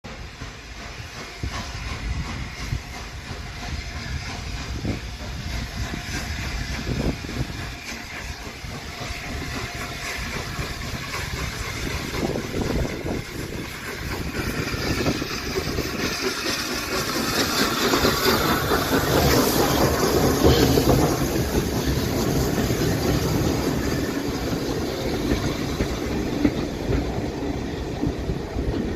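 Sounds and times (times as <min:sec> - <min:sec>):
train wheels clattering on track: 0:00.0 - 0:28.9
steam hiss: 0:00.1 - 0:28.9.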